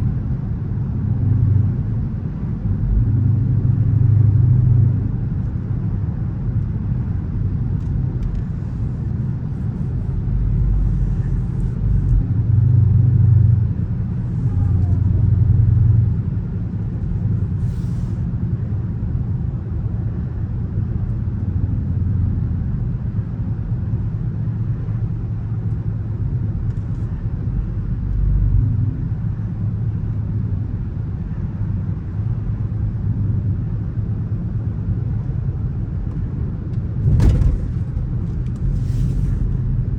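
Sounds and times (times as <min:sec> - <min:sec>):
car engine and exhaust rumbling: 0:00.0 - 0:39.9.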